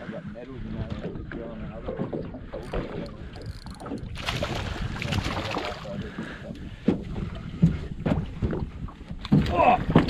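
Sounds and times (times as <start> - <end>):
water and wind rumble: 0.0 - 10.0.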